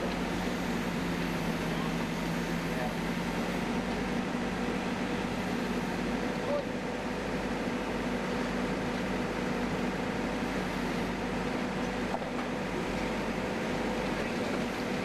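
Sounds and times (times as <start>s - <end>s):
backhoe engine running: 0.0s - 15.0s.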